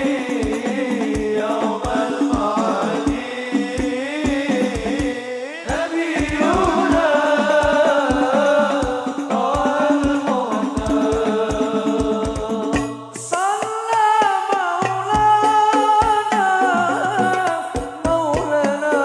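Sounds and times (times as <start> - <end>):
person singing: 0.0 - 19.0
steady drum beat: 0.0 - 19.0.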